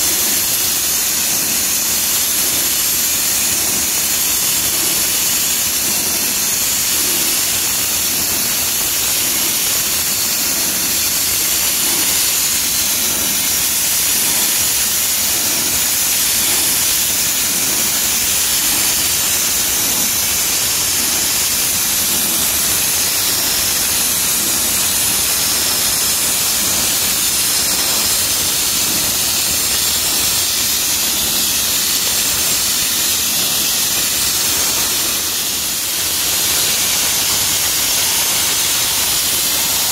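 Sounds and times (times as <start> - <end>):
sandblasting nozzle hissing: 0.0 - 39.9.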